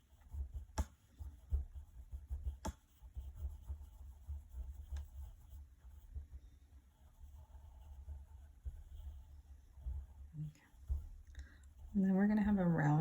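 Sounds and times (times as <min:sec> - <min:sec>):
drawing tool scratching on paper: 0:00.0 - 0:12.8.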